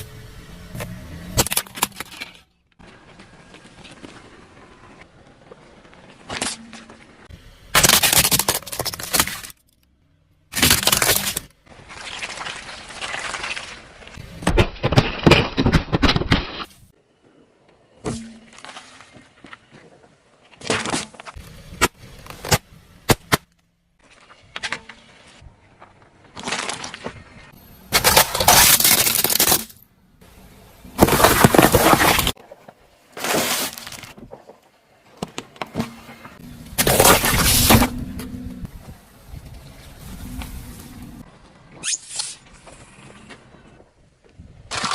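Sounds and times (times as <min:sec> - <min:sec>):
car tyres crushing objects: 0:00.0 - 0:17.0, 0:17.7 - 0:44.9.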